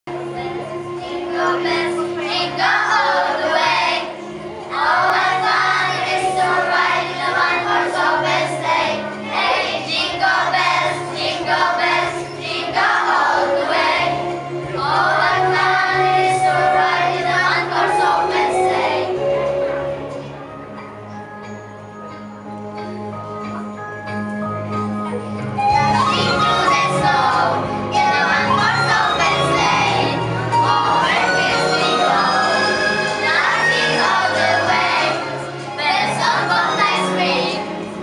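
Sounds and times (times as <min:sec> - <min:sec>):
instrumental backing track: 0:00.1 - 0:38.0
children singing: 0:01.0 - 0:19.8, 0:25.7 - 0:38.0.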